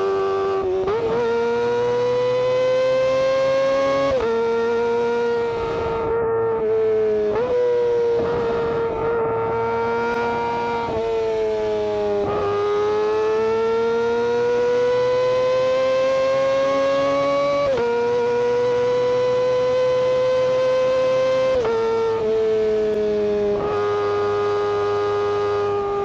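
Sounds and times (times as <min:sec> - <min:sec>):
motorcycle engine high revs: 0:00.0 - 0:26.0.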